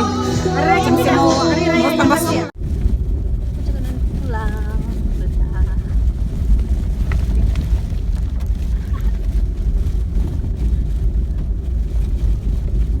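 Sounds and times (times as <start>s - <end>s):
low fluttering rumble: 0.0s - 13.0s.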